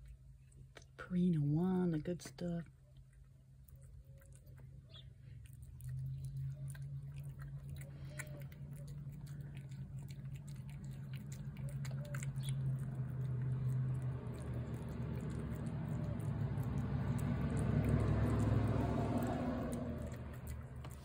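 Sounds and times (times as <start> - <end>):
cat chewing wet food: 0.0 - 1.0, 2.6 - 21.0
steady low hum: 0.0 - 21.0.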